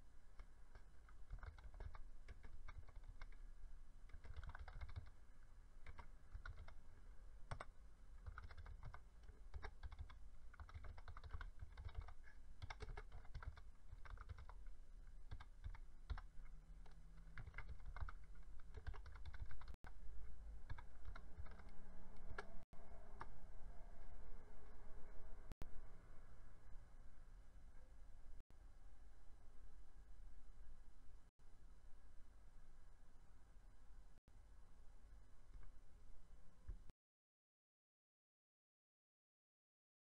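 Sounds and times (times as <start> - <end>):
low background hum: 0.0 - 36.9.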